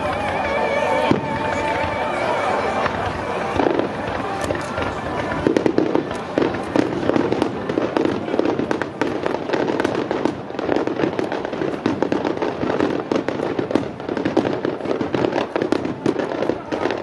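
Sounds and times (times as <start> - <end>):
fireworks bangs with crackle: 0.0 - 17.0.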